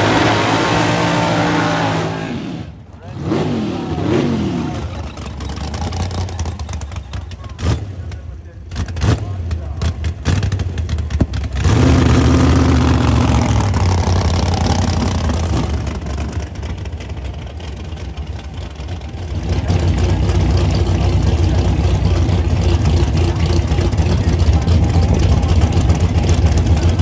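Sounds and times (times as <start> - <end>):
race car engine burnout: 0.0 - 27.0
engine idling: 4.6 - 27.0.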